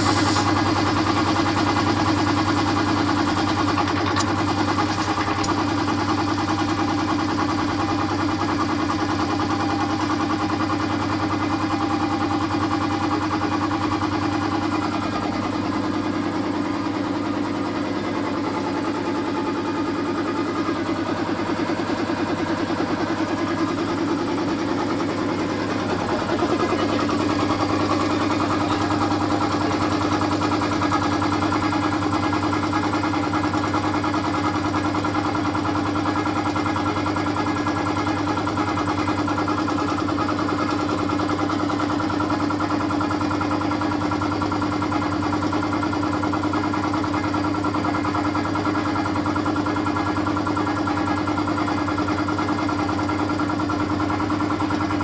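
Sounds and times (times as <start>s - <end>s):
air compressor running: 0.0s - 55.0s.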